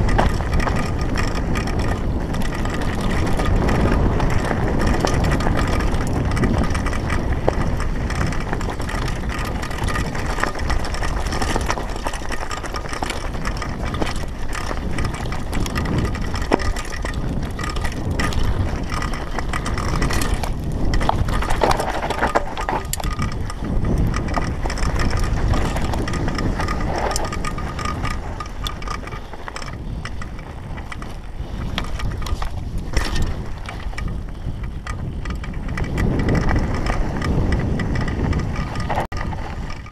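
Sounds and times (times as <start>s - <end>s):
bike clicking and rattling: 0.0s - 39.9s
tyre noise on gravel: 0.0s - 39.9s
wind rushing over microphone: 0.0s - 39.9s.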